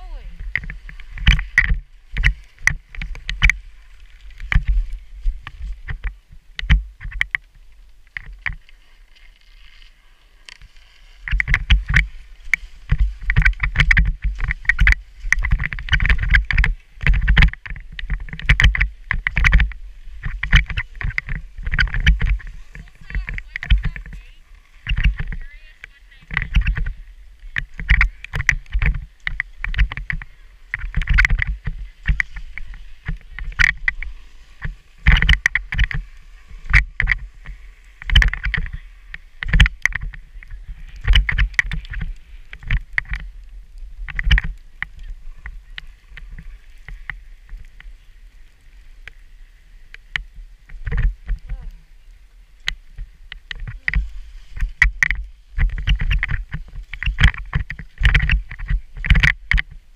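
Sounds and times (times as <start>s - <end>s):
skis scraping over snow: 0.0s - 59.1s.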